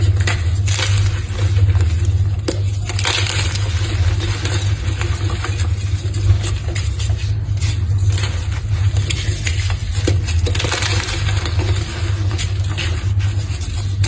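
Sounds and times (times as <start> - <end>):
chalk crunching and crackling: 0.0 - 14.0.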